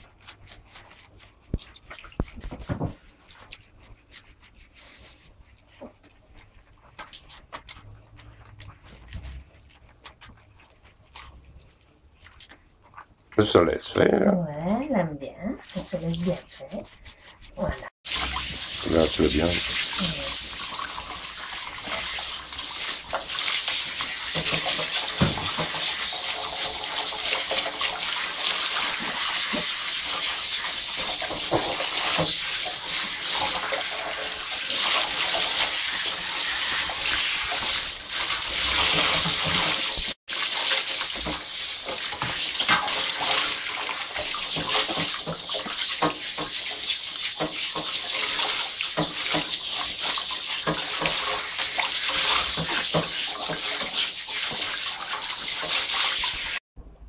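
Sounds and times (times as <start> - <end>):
shower water splashing into bathtub: 0.0 - 14.1, 14.8 - 56.6.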